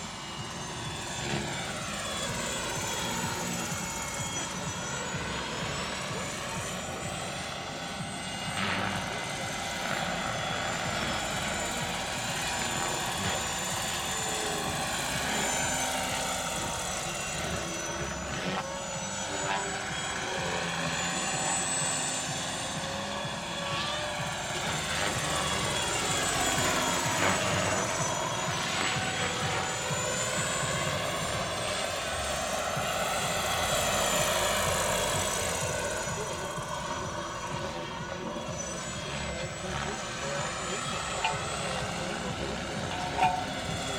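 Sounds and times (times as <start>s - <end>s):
model helicopter rotor noise: 0.0s - 43.9s
thin high whine: 0.0s - 43.9s.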